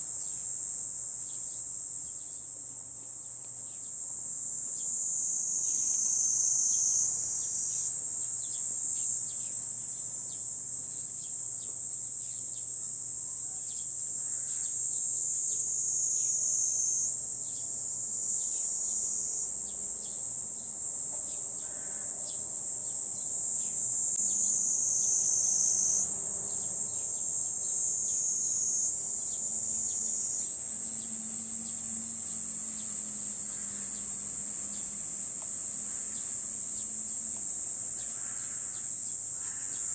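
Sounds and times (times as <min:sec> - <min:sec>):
cicadas calling: 0:00.0 - 0:39.9.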